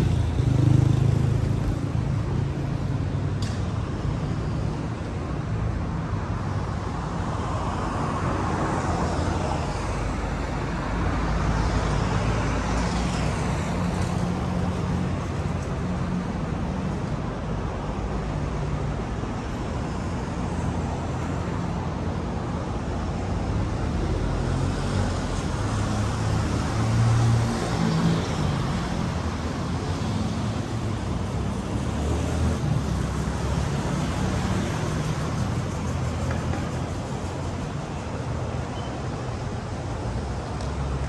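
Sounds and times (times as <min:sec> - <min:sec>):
car and bus engines: 0:00.0 - 0:41.0
tyres on the road: 0:00.0 - 0:41.0.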